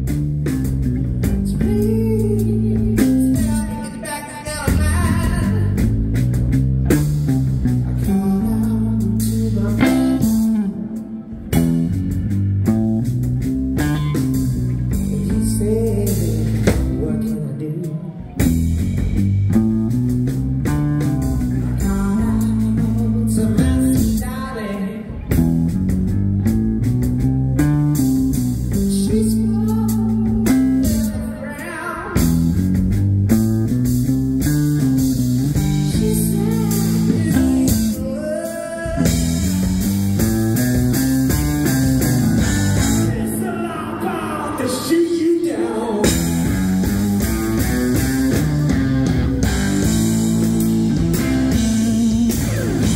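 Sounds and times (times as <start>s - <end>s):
bass line: 0.0s - 52.9s
electric guitar: 0.0s - 52.9s.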